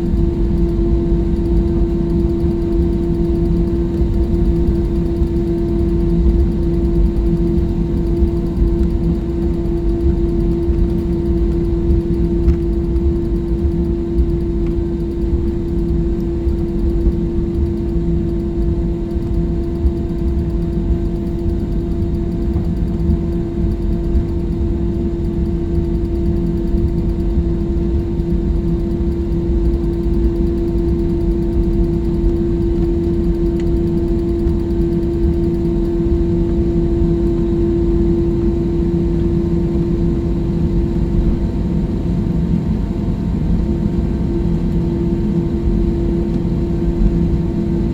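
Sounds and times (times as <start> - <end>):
jet airliner cabin engine rumble: 0.0 - 47.9.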